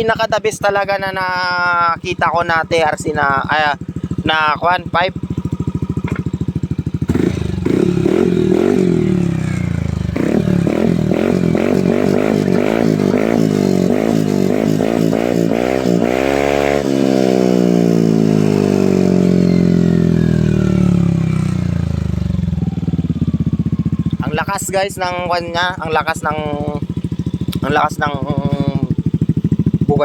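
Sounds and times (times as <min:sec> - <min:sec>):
scooter engine revving: 0:01.6 - 0:30.0.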